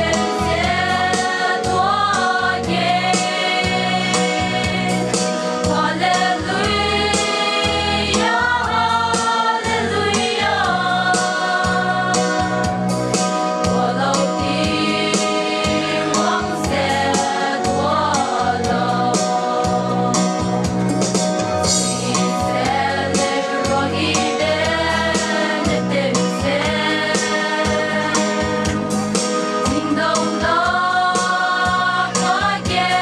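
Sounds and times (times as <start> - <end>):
mixed choir singing: 0.0 - 20.7, 22.0 - 33.0.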